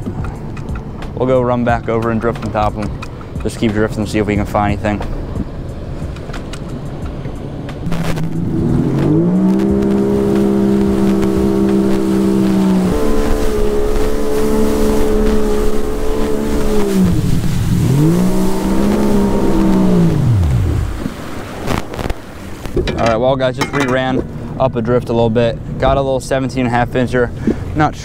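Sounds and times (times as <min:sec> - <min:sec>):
watercraft engine revving: 0:00.0 - 0:22.8
water spray and wind rushing: 0:00.0 - 0:28.0.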